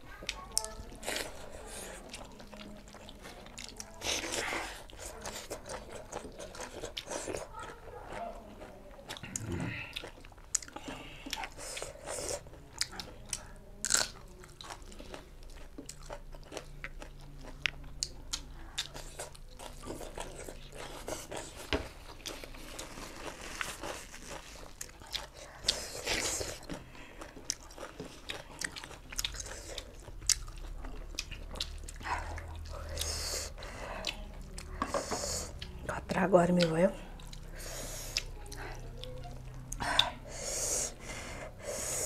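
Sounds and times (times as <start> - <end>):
person chewing with crunches: 0.0 - 35.9, 36.5 - 42.0.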